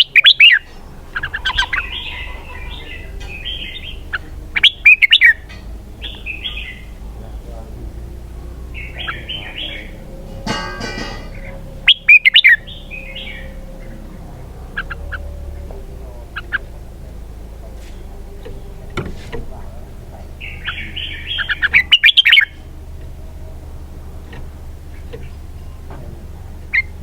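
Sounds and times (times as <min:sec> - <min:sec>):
bird chirps: 0:00.0 - 0:27.0
bird warbling: 0:00.0 - 0:27.0.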